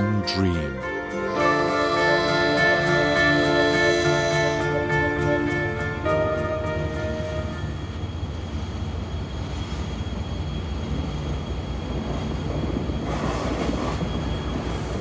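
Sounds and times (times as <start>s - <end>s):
rushing hiss of passing train: 1.0s - 15.0s
train wheels rumbling on rails: 1.1s - 15.0s.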